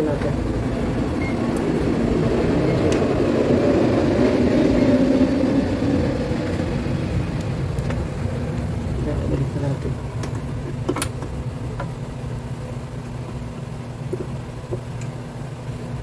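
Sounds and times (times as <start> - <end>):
low rumble: 0.0 - 14.7.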